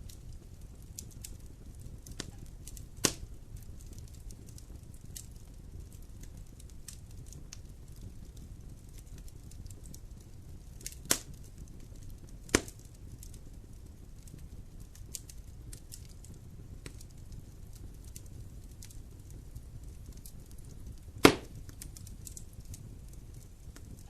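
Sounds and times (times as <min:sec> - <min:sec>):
fire crackling: 0:00.0 - 0:24.0
loud sharp pops from fire: 0:00.0 - 0:24.0
low rumble of flames: 0:00.0 - 0:24.0.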